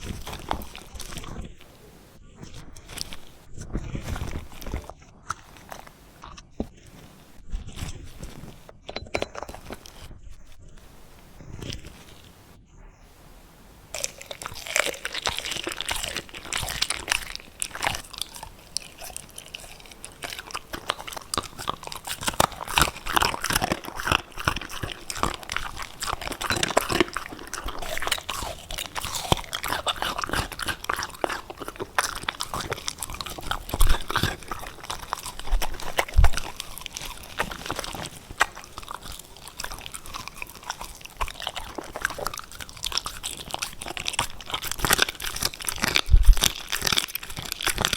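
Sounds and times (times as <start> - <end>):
puppy crunching hard cookies: 0.0 - 7.4, 8.0 - 10.1, 13.9 - 47.9.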